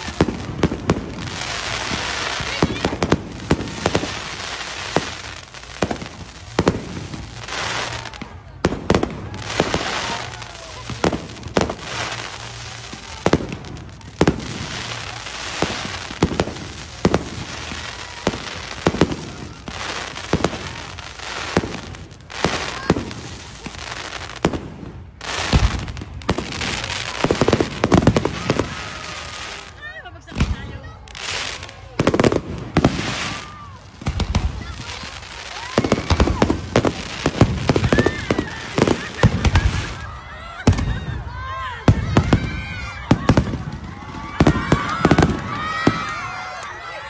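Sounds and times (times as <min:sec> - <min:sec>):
fireworks bangs: 0:00.0 - 0:47.0
fireworks crackling: 0:00.0 - 0:47.0.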